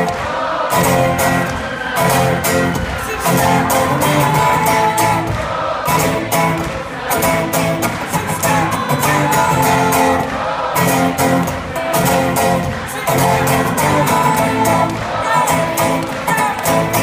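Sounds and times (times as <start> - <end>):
guitar strummed: 0.0 - 17.0.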